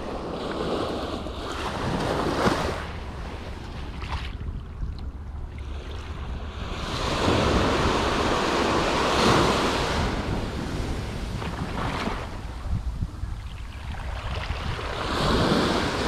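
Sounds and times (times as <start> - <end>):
waves breaking on beach: 0.0 - 4.4, 5.6 - 12.8, 13.8 - 16.0
wind rumbling on microphone: 0.0 - 16.0.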